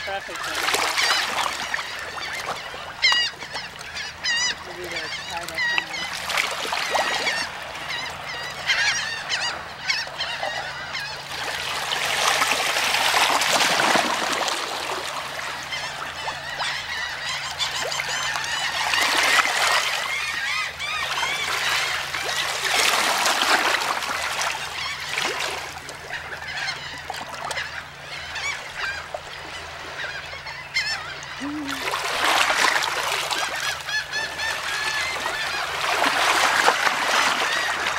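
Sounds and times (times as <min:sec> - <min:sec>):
flock of birds honking and chattering: 0:00.0 - 0:37.9.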